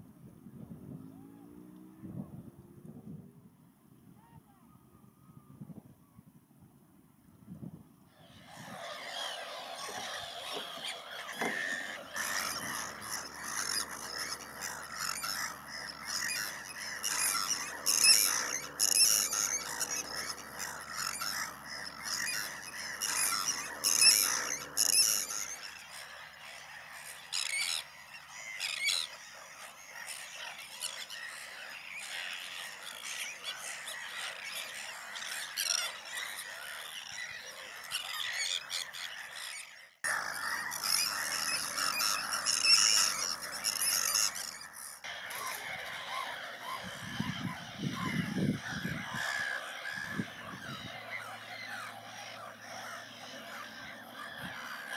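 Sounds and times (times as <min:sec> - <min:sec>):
seabirds calling: 0:08.1 - 0:54.9.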